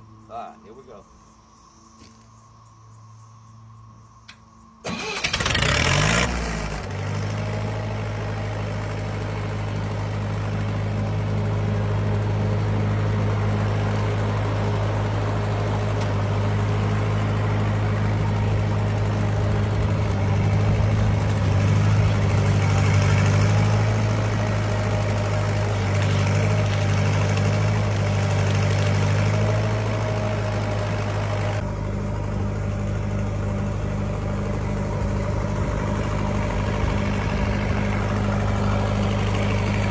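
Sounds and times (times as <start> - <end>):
welder engine starting and running: 4.3 - 39.9.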